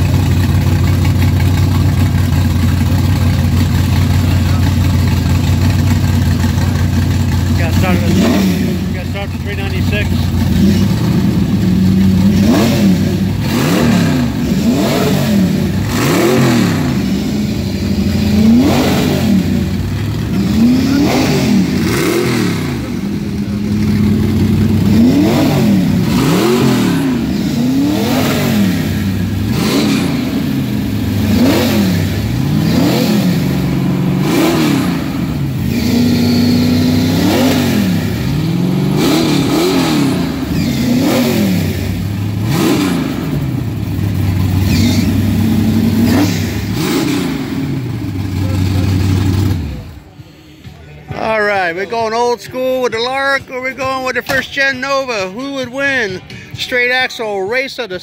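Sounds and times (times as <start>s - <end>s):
vee-eight engine revving: 0.0s - 50.1s.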